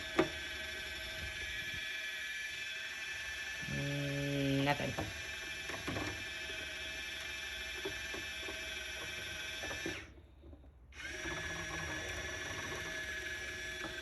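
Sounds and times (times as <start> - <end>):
small motor buzzing in water: 0.0 - 14.0.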